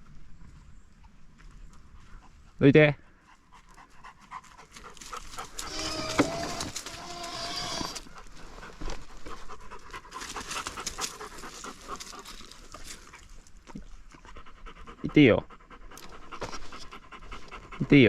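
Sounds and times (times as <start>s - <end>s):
dog panting: 1.8s - 18.0s.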